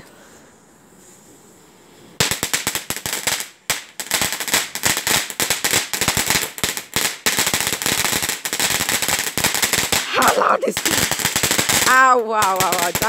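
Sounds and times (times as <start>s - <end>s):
firecrackers cracking and popping: 2.2s - 13.0s.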